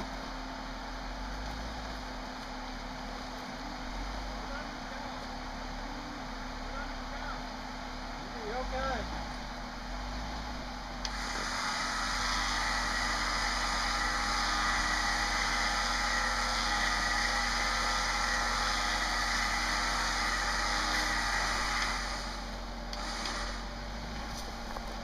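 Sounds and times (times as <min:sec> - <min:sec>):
winch motor whining: 0:00.0 - 0:25.0.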